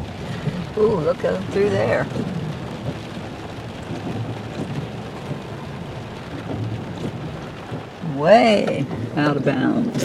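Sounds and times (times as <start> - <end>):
low car rumble: 0.0 - 10.0
rain on a car: 0.0 - 10.0.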